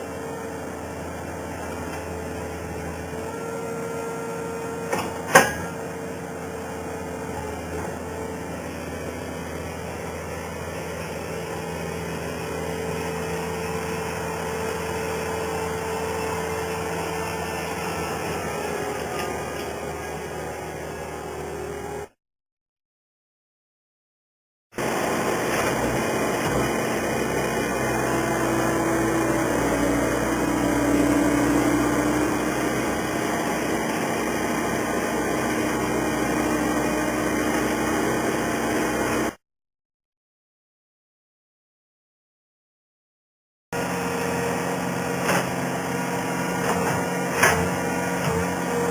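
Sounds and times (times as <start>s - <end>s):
loader engine running with whine: 0.0s - 22.1s, 24.8s - 39.4s, 43.8s - 48.9s.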